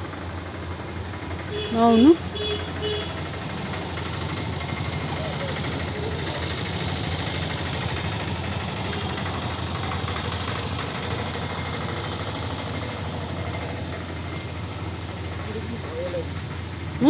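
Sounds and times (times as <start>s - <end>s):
motor idling: 0.0s - 17.0s.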